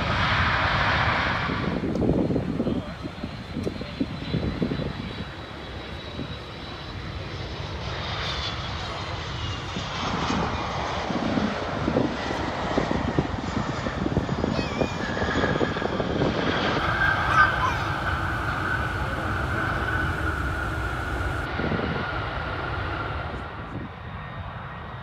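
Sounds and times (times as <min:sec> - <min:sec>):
high engine whine: 0:00.0 - 0:25.0
jet engines roaring: 0:00.0 - 0:25.0.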